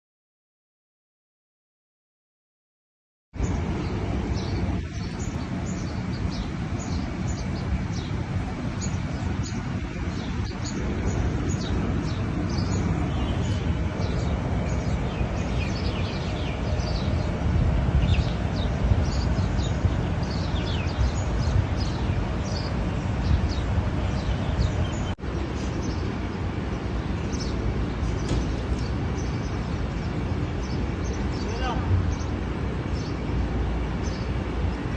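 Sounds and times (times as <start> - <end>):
birds chirping: 3.4 - 34.9
low rushing noise: 3.4 - 34.9.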